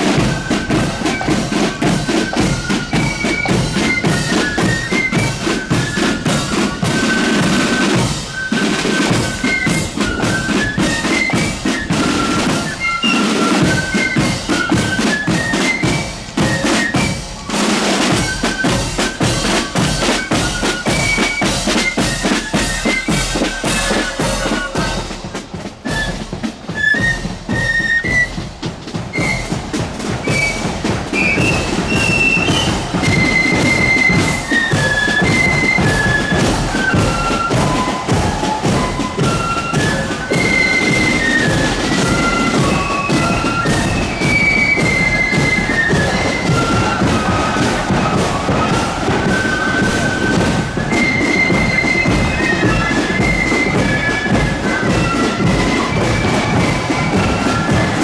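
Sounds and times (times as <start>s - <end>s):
flute melody: 0.0s - 58.0s
side drum beats: 0.0s - 58.0s.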